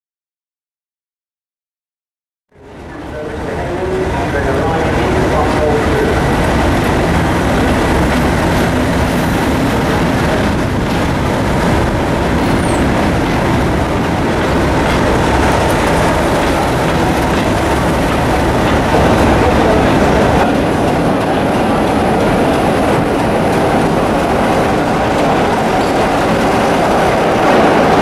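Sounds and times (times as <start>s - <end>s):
diesel locomotive approaching: 2.5s - 28.0s
diesel locomotives passing: 2.6s - 28.0s.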